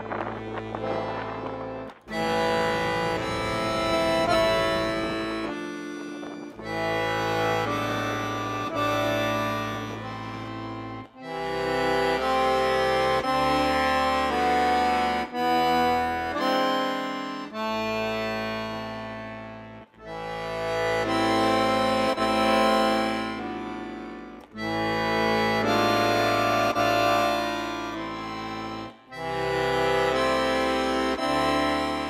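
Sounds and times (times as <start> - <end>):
sustained music chords: 0.0 - 32.0.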